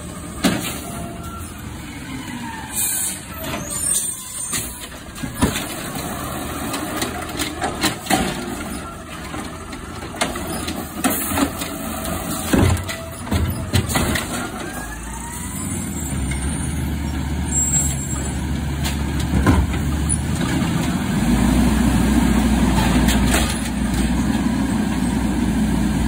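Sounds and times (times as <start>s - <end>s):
garbage truck diesel engine running: 0.0s - 26.0s.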